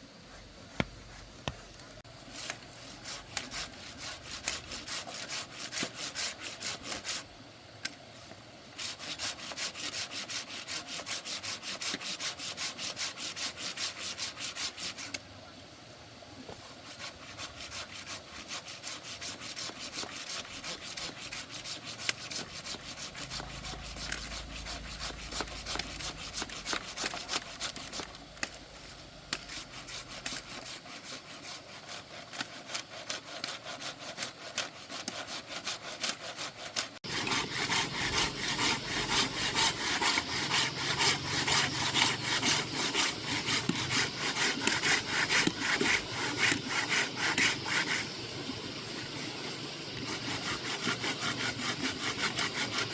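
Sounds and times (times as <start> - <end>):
hand saw cutting log: 2.3 - 7.3, 8.7 - 15.2, 16.6 - 28.6, 29.3 - 52.9.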